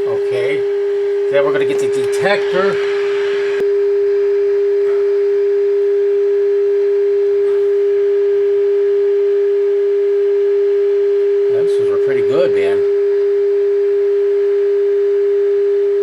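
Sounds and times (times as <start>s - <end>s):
steady test tone from radio: 0.0s - 16.0s.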